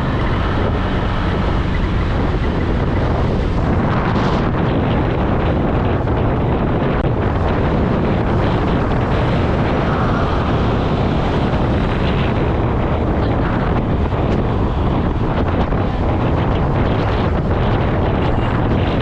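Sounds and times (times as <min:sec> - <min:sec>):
scooter engine and road noise: 0:00.0 - 0:19.0
wind rushing over microphone: 0:00.0 - 0:19.0.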